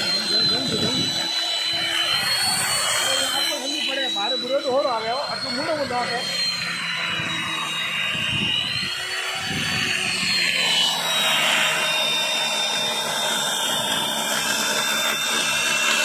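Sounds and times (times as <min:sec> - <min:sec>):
electric chainsaw cutting log: 0:00.0 - 0:16.0.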